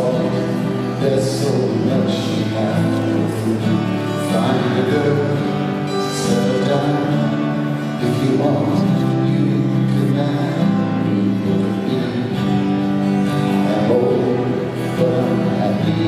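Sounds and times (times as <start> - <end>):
acoustic guitar and band: 0.0 - 16.0
man singing folk song: 0.0 - 16.0.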